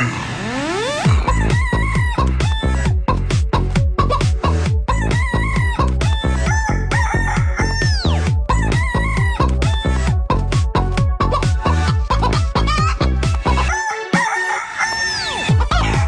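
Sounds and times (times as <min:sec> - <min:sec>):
techno track with chicken samples: 0:00.0 - 0:16.0.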